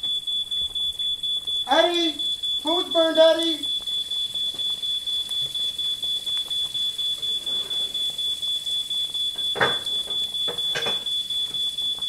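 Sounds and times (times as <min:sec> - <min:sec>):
smoke alarm beeping: 0:00.0 - 0:12.0.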